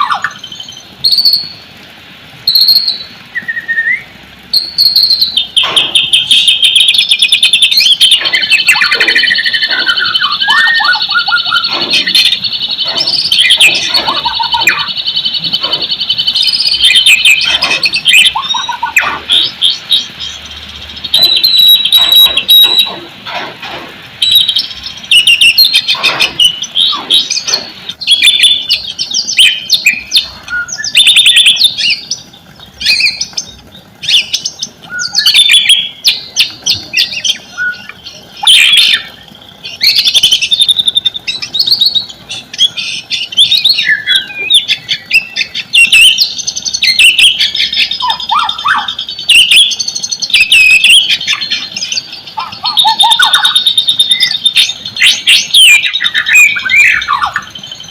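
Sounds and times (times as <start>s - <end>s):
bird singing whistles and trills: 0.0s - 1.6s, 2.4s - 23.1s, 24.2s - 57.9s.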